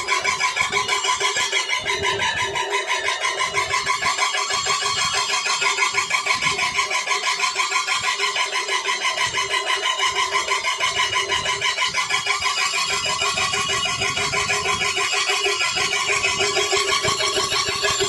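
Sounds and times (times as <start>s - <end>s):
power grinder with squeaky whine: 0.0s - 18.0s.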